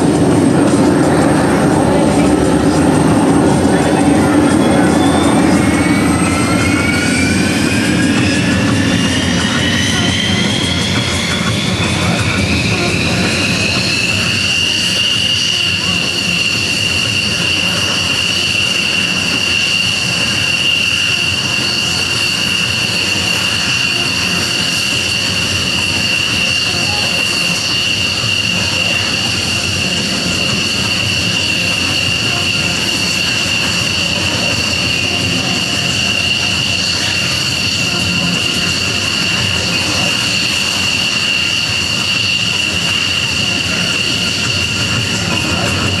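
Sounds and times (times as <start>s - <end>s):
jet engines idling: 0.0s - 46.0s.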